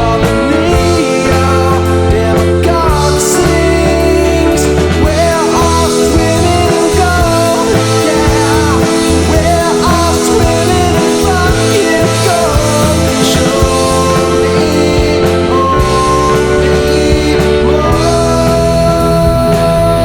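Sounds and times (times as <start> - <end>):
low bass line: 0.0 - 20.0
psychedelic rock song: 0.0 - 20.0
wavering lead guitar melody: 0.0 - 20.0.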